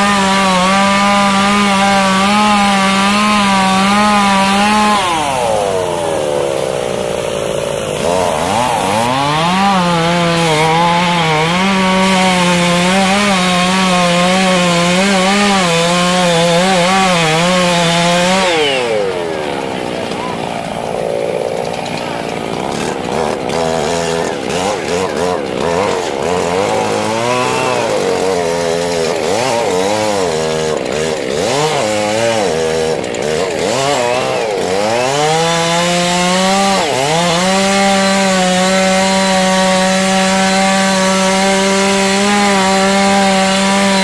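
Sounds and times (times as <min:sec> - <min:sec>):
chainsaw engine revving: 0:00.0 - 0:44.0.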